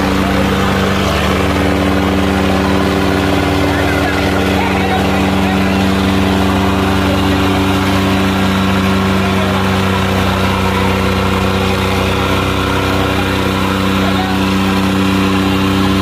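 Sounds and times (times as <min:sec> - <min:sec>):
tractor engines running hard: 0:00.0 - 0:16.0.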